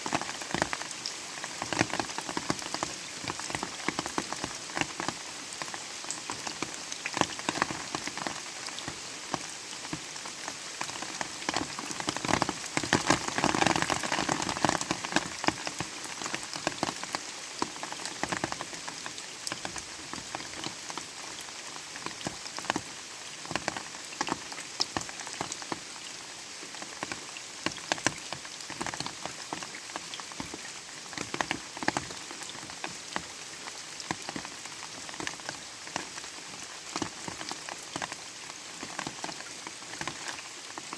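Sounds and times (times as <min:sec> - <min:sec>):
light rain pattering: 0:00.0 - 0:40.9.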